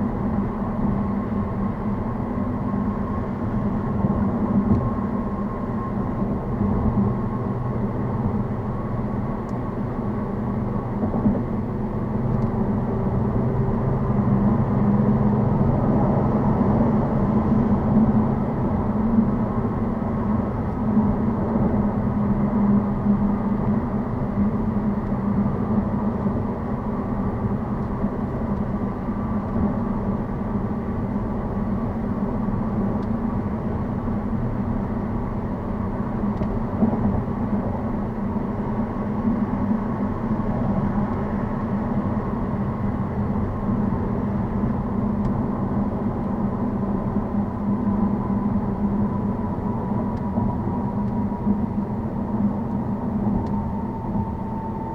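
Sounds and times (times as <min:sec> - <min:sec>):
vehicle engine and tyre drone: 0:00.0 - 0:54.9.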